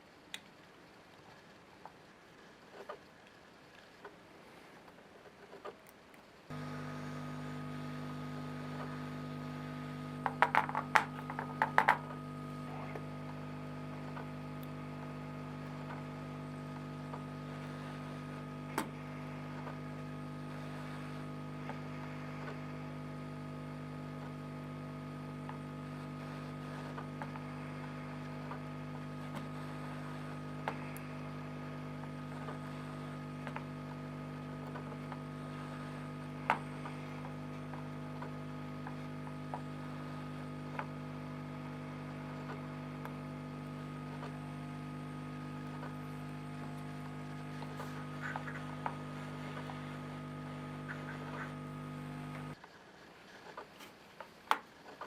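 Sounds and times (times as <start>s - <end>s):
steady electrical hum: 0.0s - 54.9s.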